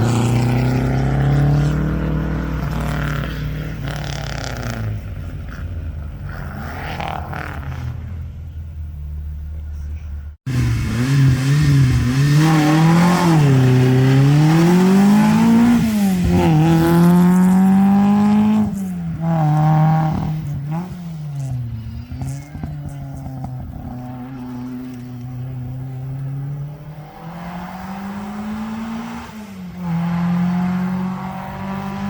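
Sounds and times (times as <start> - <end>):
rally car engine revving: 0.0 - 8.2, 10.5 - 32.0.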